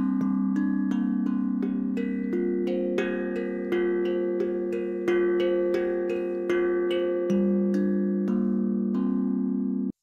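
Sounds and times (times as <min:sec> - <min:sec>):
kalimba plucked: 0:00.0 - 0:10.0
slow pulsing beat: 0:00.0 - 0:10.0.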